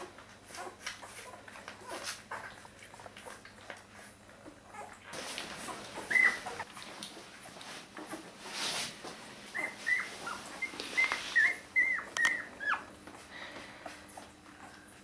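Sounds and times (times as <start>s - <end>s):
puppies squeaking and whimpering: 0.0s - 15.0s
puppies suckling: 0.0s - 15.0s.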